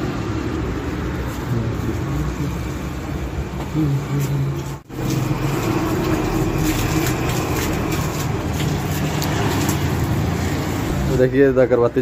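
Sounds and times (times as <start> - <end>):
vehicle engine low hum: 0.0 - 11.4
road traffic: 0.0 - 12.0.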